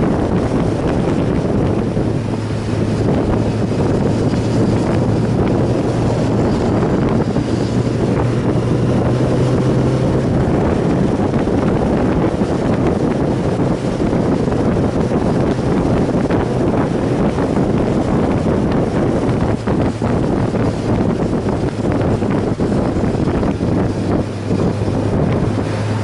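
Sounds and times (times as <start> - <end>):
motorcycle engine drone: 0.0 - 26.0
wind rushing over microphone: 0.0 - 26.0.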